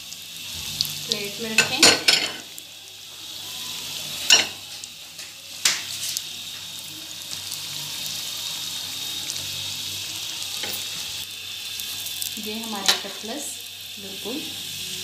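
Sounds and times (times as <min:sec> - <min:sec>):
food deep-frying in hot oil: 0:00.0 - 0:15.0.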